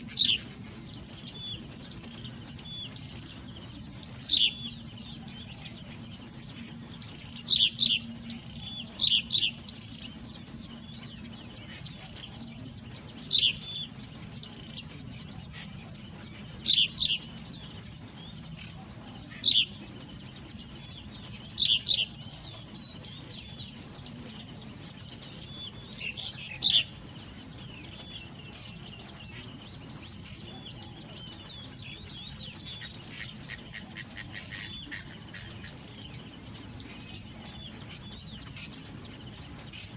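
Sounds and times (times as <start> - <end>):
bird chirping: 0.0 - 39.9
faint bird twittering: 0.0 - 39.9.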